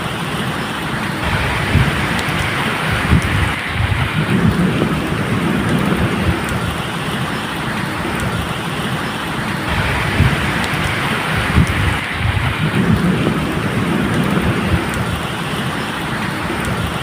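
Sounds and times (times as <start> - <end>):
rain falling: 0.0 - 17.0
thunder rumbling: 1.0 - 17.0.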